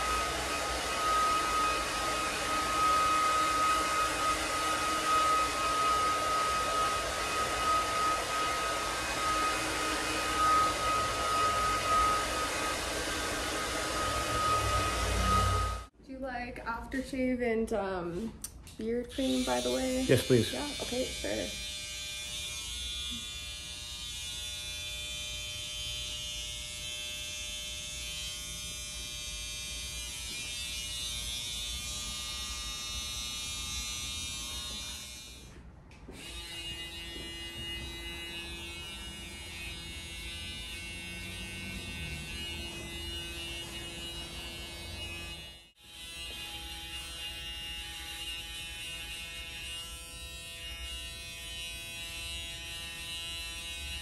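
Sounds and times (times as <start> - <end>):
hair clippers buzzing: 0.0 - 15.9, 18.9 - 54.0.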